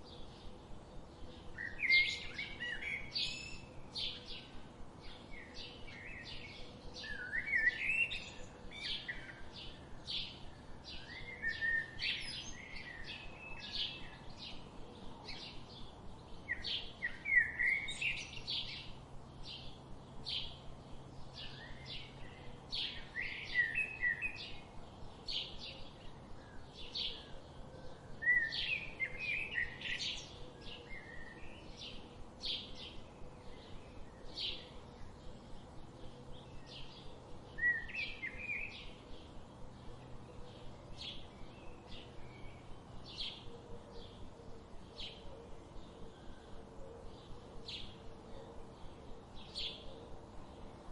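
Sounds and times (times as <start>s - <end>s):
bird warbling song: 0.0s - 50.9s.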